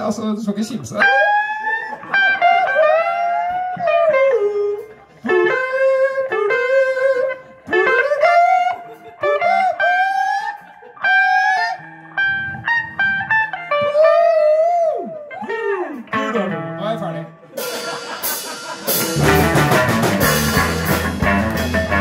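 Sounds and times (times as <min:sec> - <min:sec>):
electric guitar lead phrases: 0:01.0 - 0:22.0.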